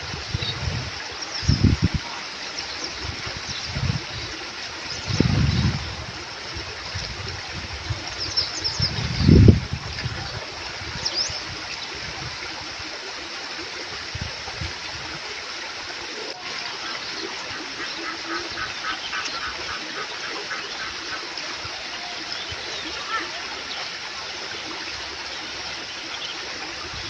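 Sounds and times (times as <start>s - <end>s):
creek flowing over stones: 0.0s - 27.0s.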